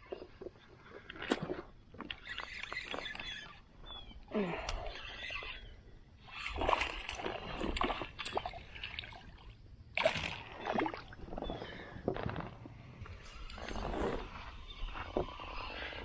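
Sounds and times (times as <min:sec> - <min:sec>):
water splashing around a kayak: 0:00.0 - 0:04.6, 0:06.2 - 0:16.0.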